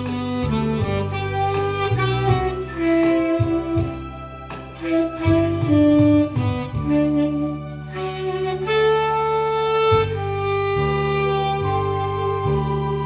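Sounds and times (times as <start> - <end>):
bass line: 0.0 - 13.0
saxophone melody: 0.0 - 13.0.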